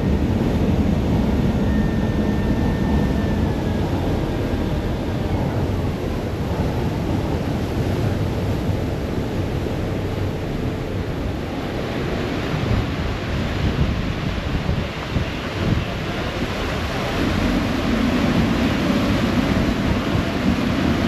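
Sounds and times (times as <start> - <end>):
water rushing in boat wake: 0.0 - 21.0
wind buffeting microphone: 0.0 - 21.0.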